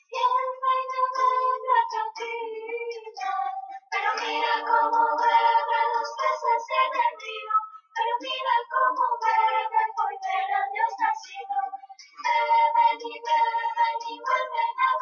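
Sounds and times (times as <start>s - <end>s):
high voice singing: 0.0s - 15.0s.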